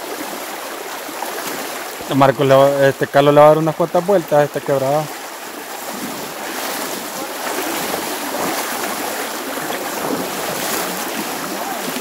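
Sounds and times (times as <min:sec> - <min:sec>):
creek rushing: 0:00.0 - 0:12.0
water churning around legs: 0:00.0 - 0:12.0.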